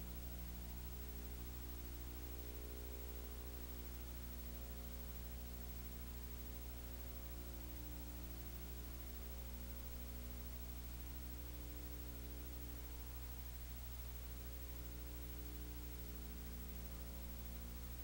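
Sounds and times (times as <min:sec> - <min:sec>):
constant hiss: 0:00.0 - 0:18.0
electrical mains hum: 0:00.0 - 0:18.0.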